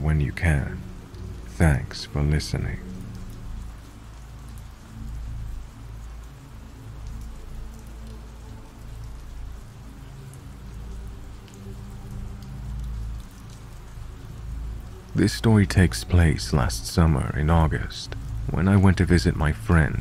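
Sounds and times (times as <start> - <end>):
low music drone: 0.0 - 20.0
steady rain falling: 0.0 - 20.0.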